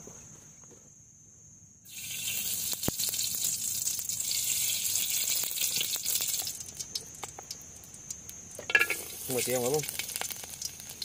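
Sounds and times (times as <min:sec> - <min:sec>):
oil sizzling in hot wok: 0:01.9 - 0:11.0.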